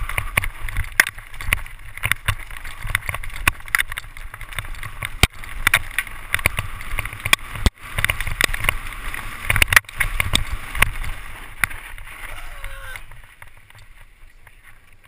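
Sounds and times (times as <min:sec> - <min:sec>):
mountain bike rattling over rocks: 0:00.0 - 0:15.0.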